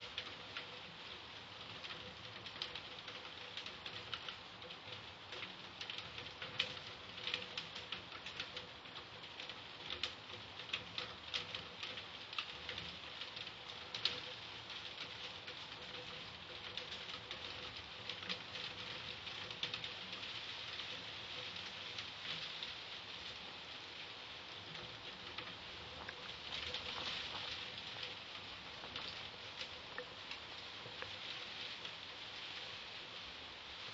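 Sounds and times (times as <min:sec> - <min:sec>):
heavy rain falling: 0:00.0 - 0:33.9
raindrops ticking: 0:00.0 - 0:33.9.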